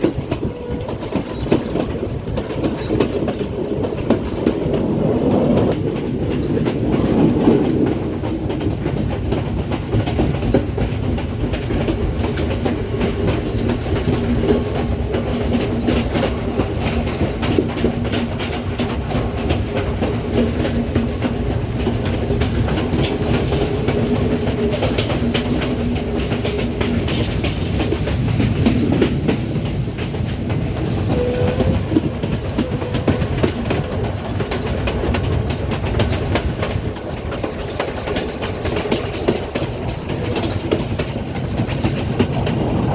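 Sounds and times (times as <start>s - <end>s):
train wheels clattering over rail joints: 0.0s - 42.9s.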